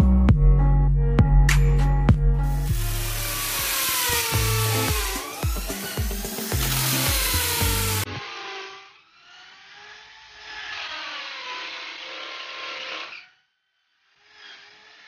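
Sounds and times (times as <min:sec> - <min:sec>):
power tool whirring: 0:02.4 - 0:15.0.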